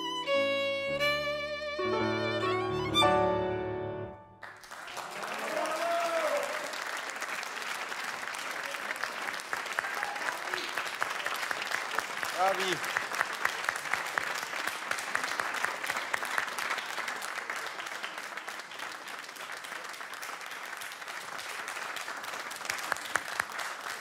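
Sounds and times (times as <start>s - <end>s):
audience applauding: 4.4s - 24.0s.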